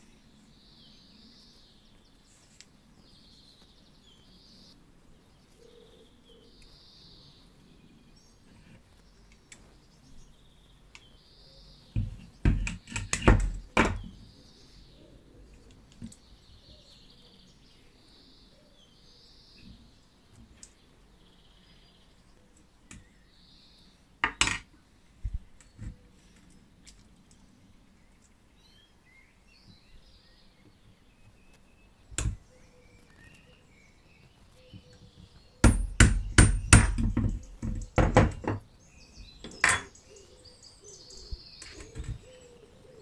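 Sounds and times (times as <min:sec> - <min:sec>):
faint birds chirping: 0:00.0 - 0:43.0.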